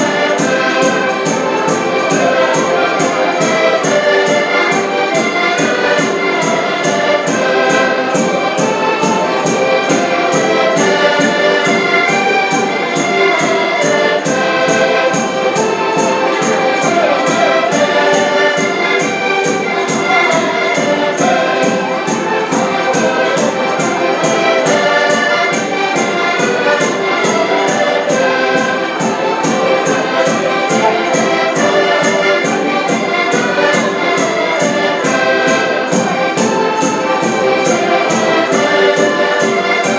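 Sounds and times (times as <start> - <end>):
button accordions playing chords: 0.0 - 39.9.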